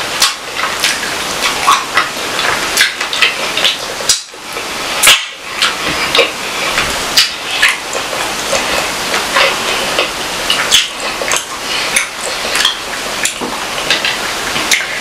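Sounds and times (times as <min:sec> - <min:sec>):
chewing with wet mouth clicks: 0:00.2 - 0:15.0.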